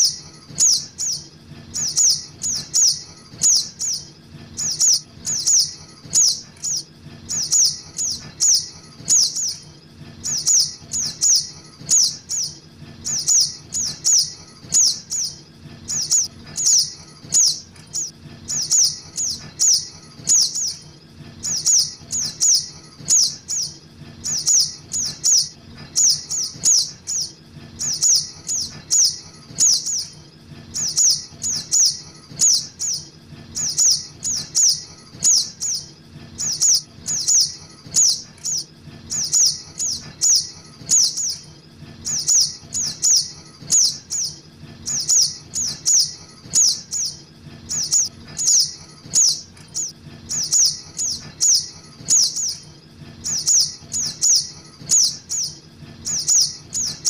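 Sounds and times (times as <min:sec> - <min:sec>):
birds calling high chips: 0:00.0 - 0:57.0
faint low hum: 0:00.0 - 0:57.0.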